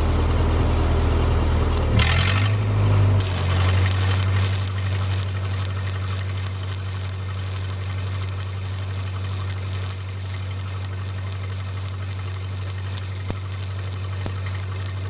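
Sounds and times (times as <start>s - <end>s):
welder engine drone: 0.0s - 15.0s
welding arc crackling: 1.7s - 2.5s, 3.2s - 15.0s.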